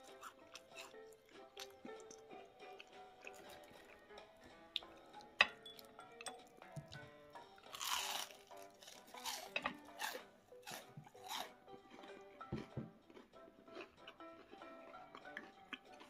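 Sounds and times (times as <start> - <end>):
crunchy fried food chewing: 0.0 - 5.4, 6.8 - 16.0
background music: 0.0 - 16.0.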